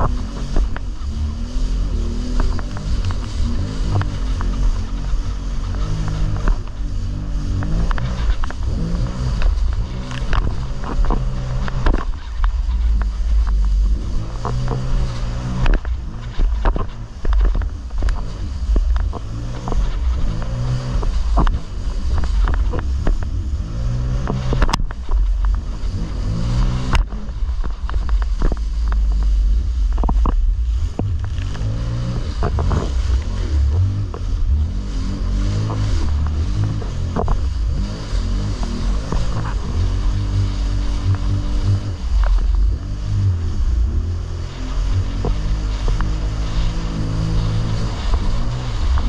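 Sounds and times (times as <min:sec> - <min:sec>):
jet ski engine running: 0:00.0 - 0:49.0
water slapping against hull: 0:00.0 - 0:49.0.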